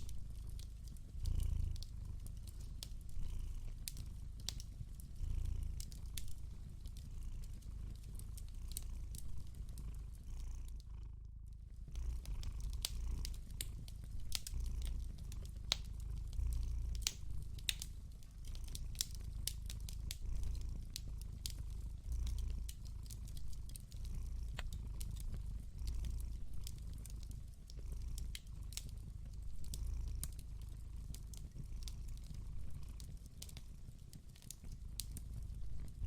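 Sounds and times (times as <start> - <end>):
wood fire crackling: 0.0 - 10.9, 11.5 - 36.0
cat purring: 0.0 - 36.0.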